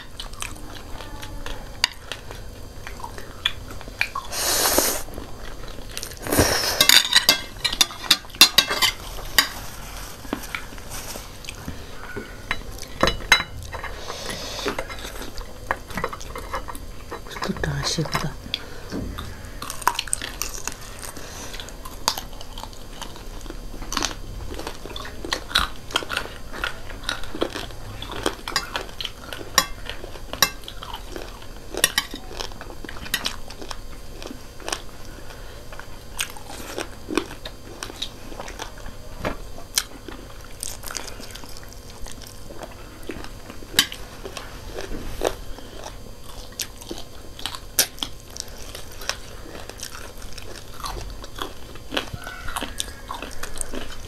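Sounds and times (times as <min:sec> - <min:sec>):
people crunching food: 0:00.0 - 0:54.0.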